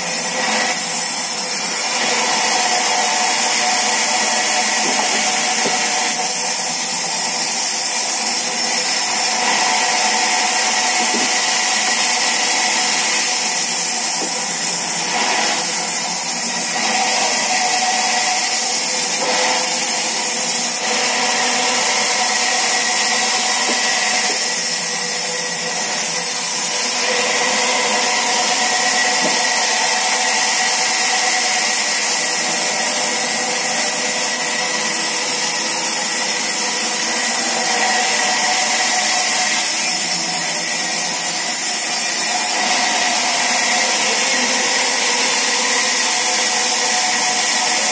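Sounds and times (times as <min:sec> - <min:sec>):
saw cutting through wood: 0:00.0 - 0:47.9.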